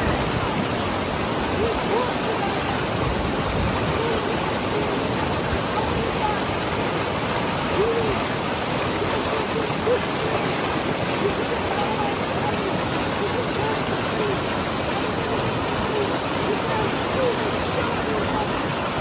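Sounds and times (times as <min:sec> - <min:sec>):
faint voice-like sounds: 0:00.0 - 0:19.0
river water rushing: 0:00.0 - 0:19.0.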